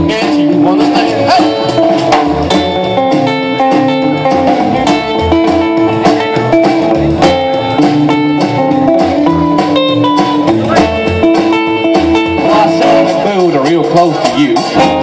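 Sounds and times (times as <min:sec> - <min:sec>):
electric guitar solo: 0:00.0 - 0:13.4
steady drum beat: 0:00.0 - 0:15.0
walking bass: 0:00.0 - 0:15.0.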